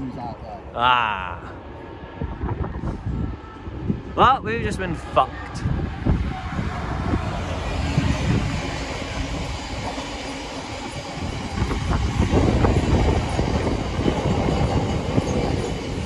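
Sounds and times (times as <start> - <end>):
diesel locomotive passing: 0.0 - 16.0.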